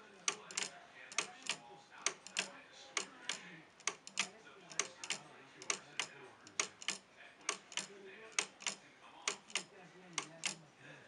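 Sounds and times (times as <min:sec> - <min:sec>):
wooden clock ticking: 0:00.0 - 0:10.6.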